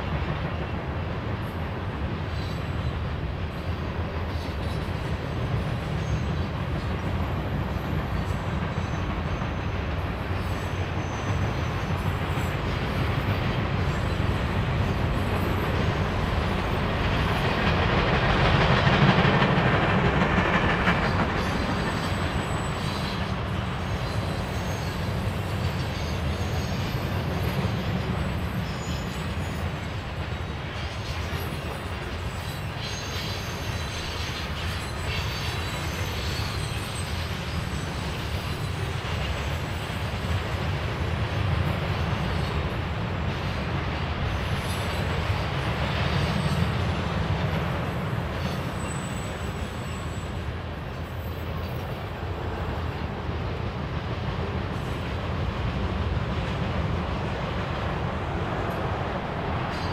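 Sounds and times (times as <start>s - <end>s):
train cars rolling over rails: 0.0s - 59.9s.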